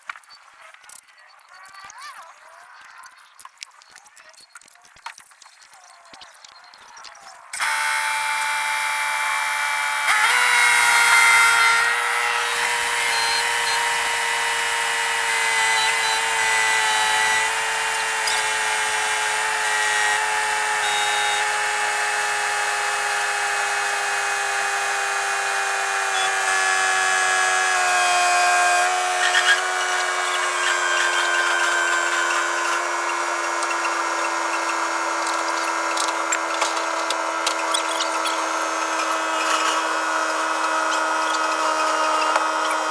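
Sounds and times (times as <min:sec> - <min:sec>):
electric power tool whining: 0:07.5 - 0:42.9.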